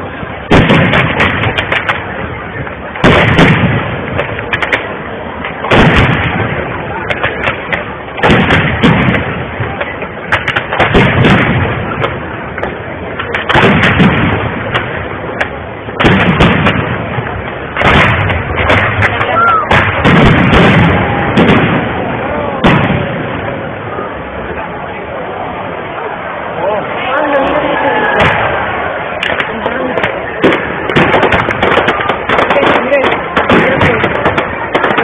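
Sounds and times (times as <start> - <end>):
firework booms: 0.0 - 24.6, 27.7 - 35.0
firework crackling: 0.0 - 35.0.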